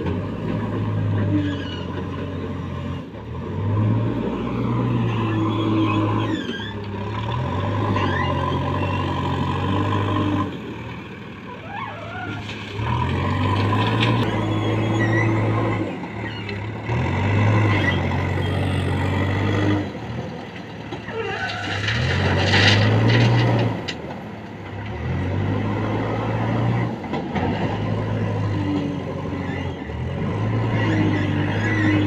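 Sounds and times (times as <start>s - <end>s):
diesel engine revving: 0.0s - 32.0s.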